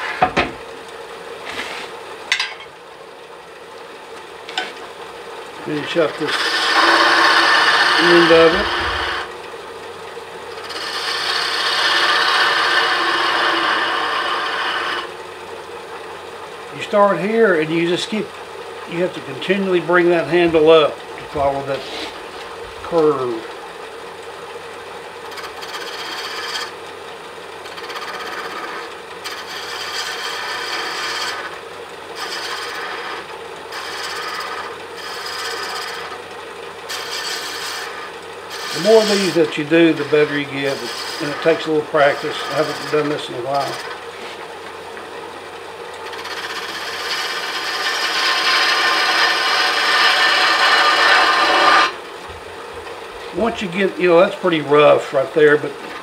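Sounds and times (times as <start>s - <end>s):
lathe tool scraping wood: 0.0s - 0.6s, 1.4s - 2.1s, 4.5s - 15.5s, 16.3s - 56.0s
lathe faint hum: 0.0s - 56.0s.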